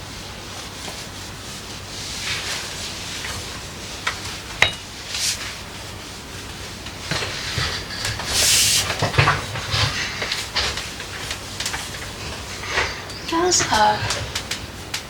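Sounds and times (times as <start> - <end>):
hand rubbing and wiping surface: 0.0 - 14.9.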